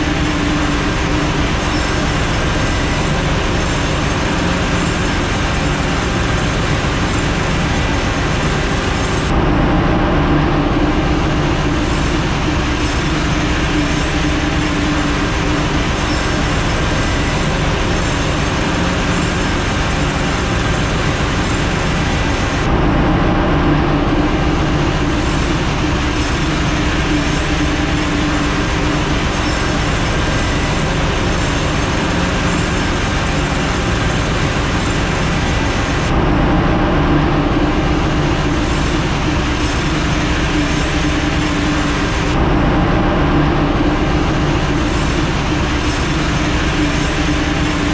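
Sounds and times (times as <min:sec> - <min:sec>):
engine room machinery drone: 0:00.0 - 0:47.9
low hum: 0:00.0 - 0:47.9.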